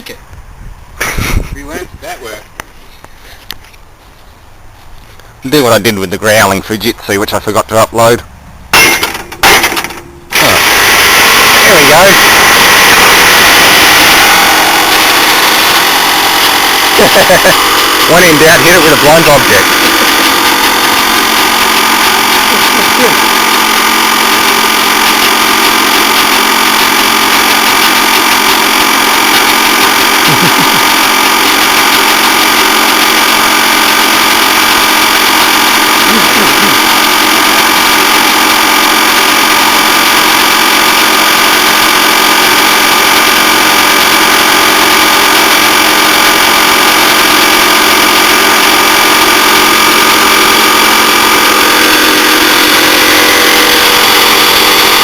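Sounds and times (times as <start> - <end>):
compressor humming: 0.0 - 55.0.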